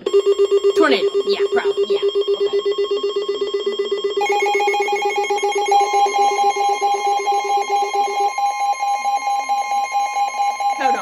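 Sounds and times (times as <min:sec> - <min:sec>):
high warning tone: 0:00.0 - 0:11.0
rapid pulsing electronic beeps: 0:00.0 - 0:11.0.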